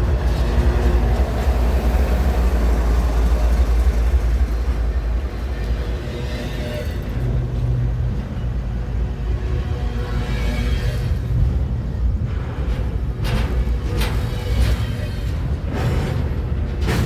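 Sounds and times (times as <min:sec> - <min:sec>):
freight train rumbling on rails: 0:00.0 - 0:17.0.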